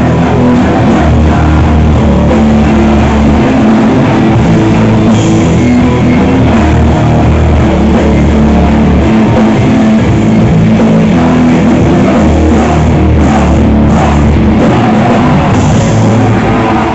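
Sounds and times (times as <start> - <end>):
rock band playing live: 0.0 - 16.9.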